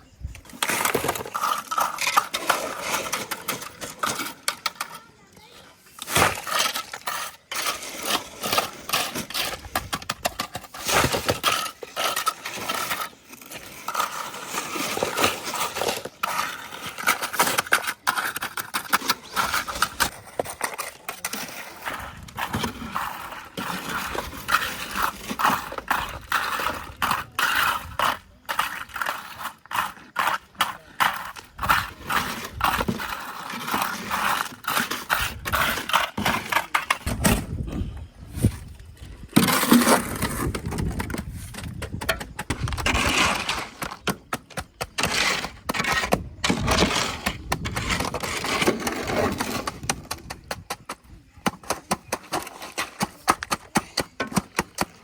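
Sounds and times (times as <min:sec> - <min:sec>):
hard objects clattering: 0:00.4 - 0:55.0.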